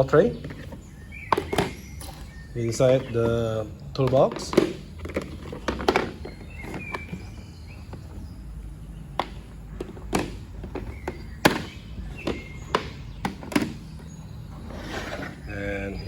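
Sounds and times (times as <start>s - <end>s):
toolbox trays knocking: 0.0s - 14.4s.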